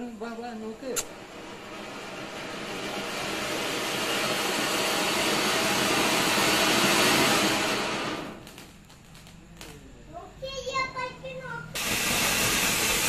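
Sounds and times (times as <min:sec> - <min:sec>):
firework fountain hissing: 0:00.0 - 0:13.0
small firework crackles: 0:00.0 - 0:13.0.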